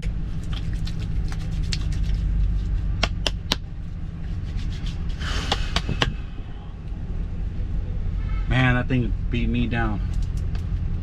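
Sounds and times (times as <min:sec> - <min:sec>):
vehicle rumble from inside cab: 0:00.0 - 0:11.0.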